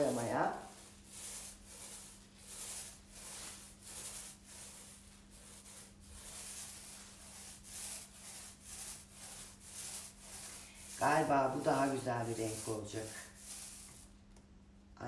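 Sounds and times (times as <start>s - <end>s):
paint roller swishing: 0.0s - 14.3s.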